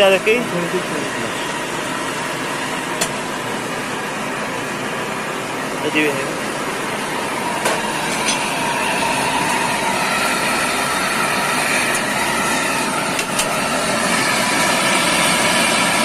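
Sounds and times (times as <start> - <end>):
machinery running: 0.0 - 16.0.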